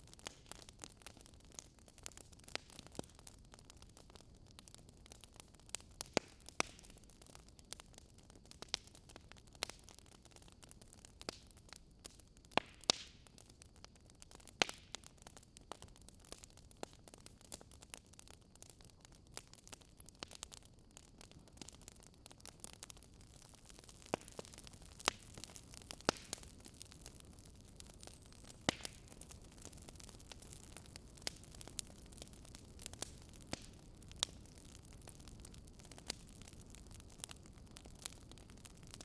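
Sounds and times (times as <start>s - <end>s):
faint steady hiss: 0.0s - 39.0s
wood fire popping and snapping: 0.0s - 39.0s.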